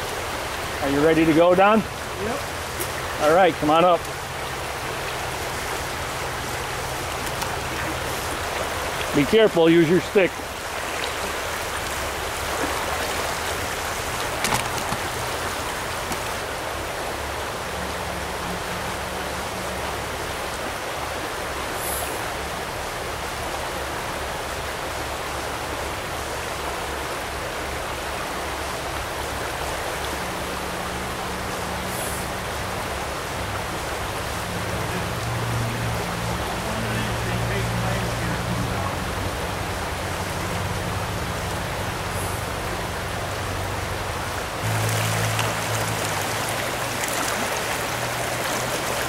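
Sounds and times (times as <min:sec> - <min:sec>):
stream rushing over stones: 0:00.0 - 0:49.0.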